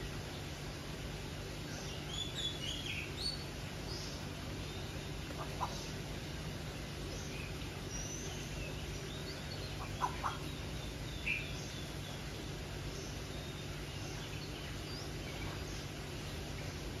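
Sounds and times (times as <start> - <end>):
birds chirping: 0.0 - 17.0
low hum: 0.0 - 17.0.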